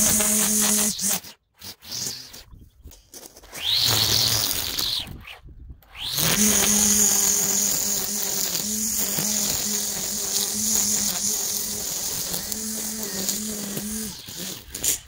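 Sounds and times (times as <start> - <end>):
string trimmer cutting grass: 0.0 - 2.5, 3.2 - 5.3, 5.9 - 15.0.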